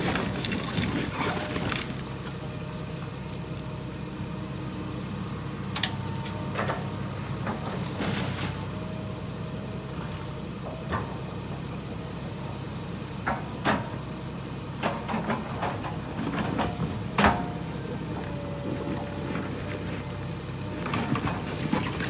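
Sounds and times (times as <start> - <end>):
heavy machine engine running: 0.0 - 22.0.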